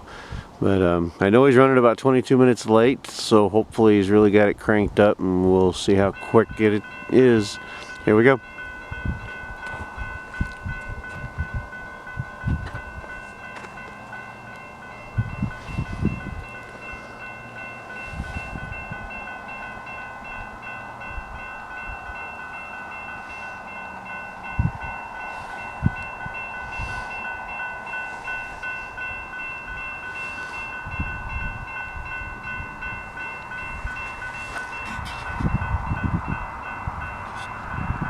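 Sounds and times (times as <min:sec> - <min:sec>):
wind buffeting microphone: 0:03.6 - 0:38.0
train rumble: 0:04.1 - 0:38.0
crossing bell ringing: 0:05.5 - 0:38.0.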